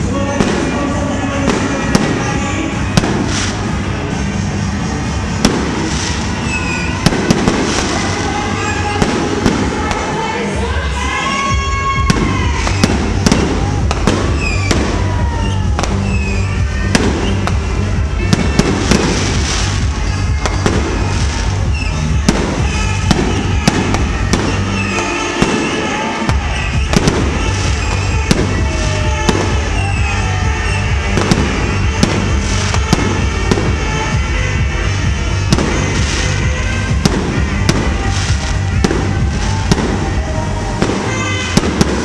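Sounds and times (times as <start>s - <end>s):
fireworks bangs and crackles: 0.0s - 42.0s
loud music with heavy bass: 0.0s - 42.0s.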